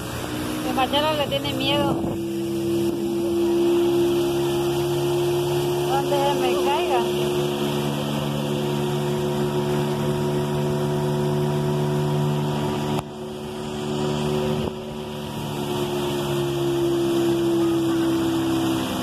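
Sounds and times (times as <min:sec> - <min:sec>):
boat motor droning: 0:00.0 - 0:19.0.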